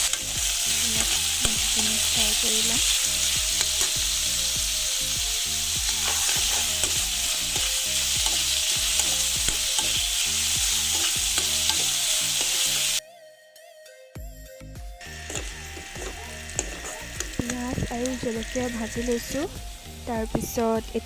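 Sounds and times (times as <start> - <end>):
chicken sizzling in hot oil: 0.0 - 13.0, 15.0 - 21.0.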